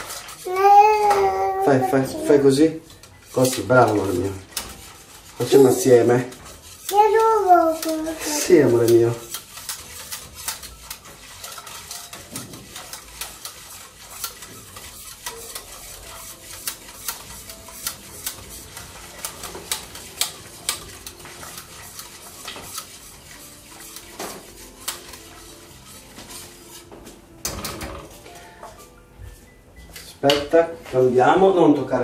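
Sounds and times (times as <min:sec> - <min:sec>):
whisk scraping metal pot: 0:00.0 - 0:28.9.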